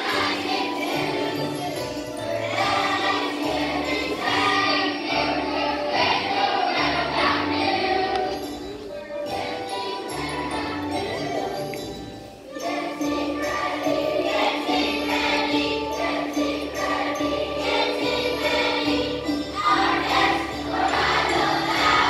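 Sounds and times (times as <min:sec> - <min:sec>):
children's choir singing: 0:00.0 - 0:22.0
instrumental accompaniment: 0:00.0 - 0:22.0.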